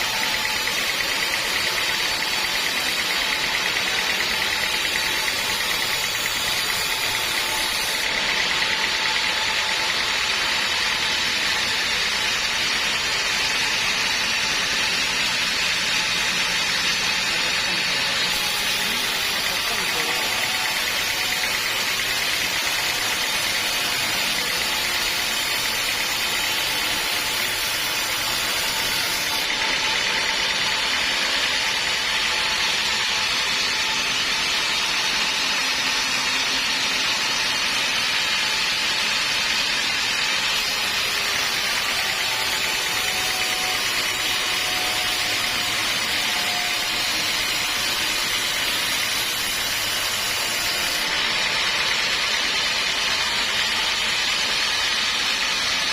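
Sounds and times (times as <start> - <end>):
sawmill saw running: 0.0 - 55.9.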